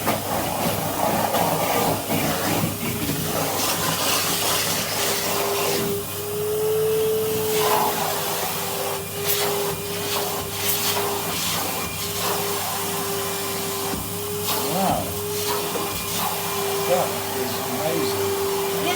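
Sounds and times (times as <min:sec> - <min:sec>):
vacuum cleaner suction hiss: 0:00.0 - 0:18.9.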